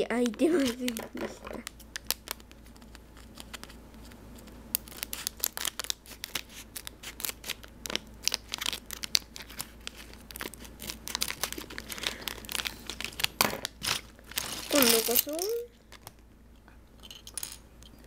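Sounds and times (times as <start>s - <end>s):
plastic bag crinkling: 0.0s - 3.8s, 4.4s - 16.0s.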